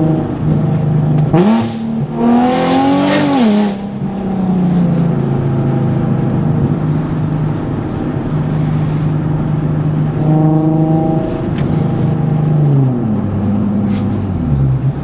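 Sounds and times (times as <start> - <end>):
car engine cruising from inside: 0.0 - 15.0.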